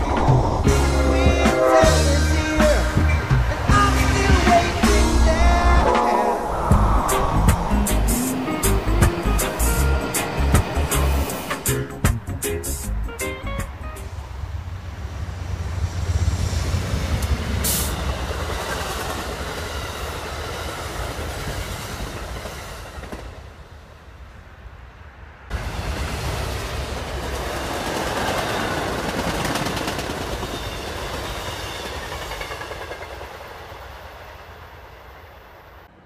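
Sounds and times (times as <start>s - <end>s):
passenger train rushing past: 0.0s - 36.0s.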